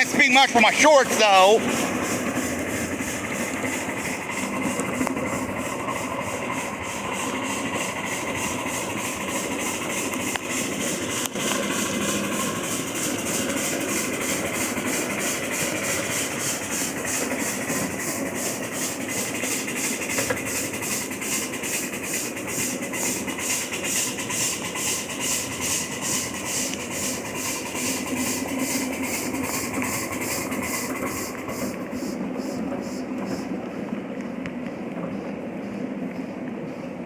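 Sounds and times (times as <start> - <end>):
model steam locomotive chuffing: 0.0 - 37.0
rail noise: 0.0 - 37.0.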